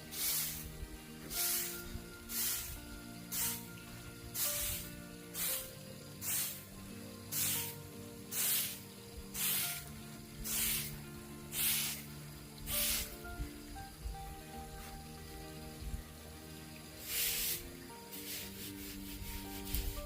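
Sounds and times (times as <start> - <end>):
sharp hissing beat: 0.0 - 15.0, 17.0 - 20.0
slow melodic background music: 0.0 - 20.0.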